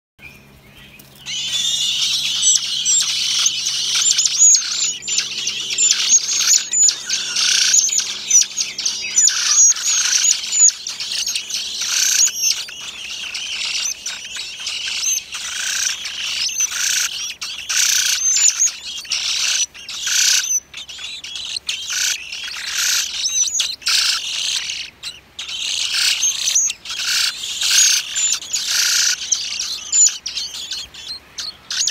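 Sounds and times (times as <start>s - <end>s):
nestlings chirping shrilly: 0.9s - 31.9s.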